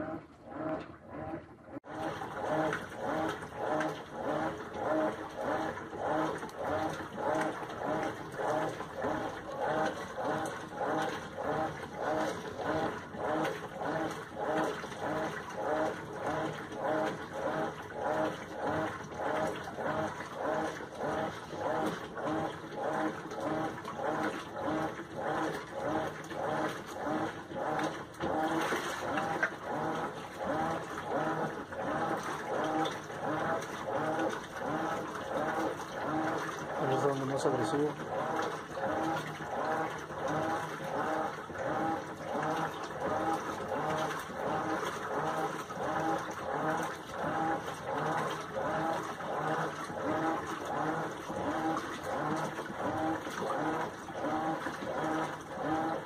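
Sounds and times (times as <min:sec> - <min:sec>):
washing machine sloshing: 0:00.0 - 0:56.0.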